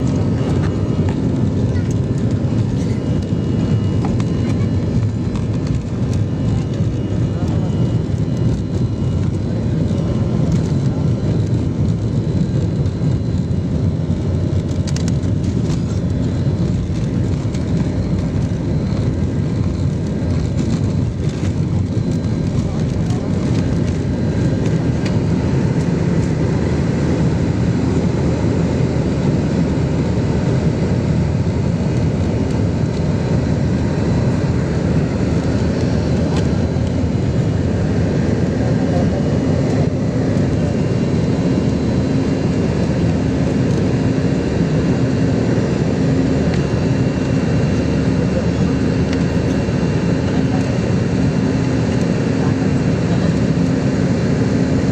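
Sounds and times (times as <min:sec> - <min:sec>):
airplane engines rumbling: 0:00.0 - 0:54.9.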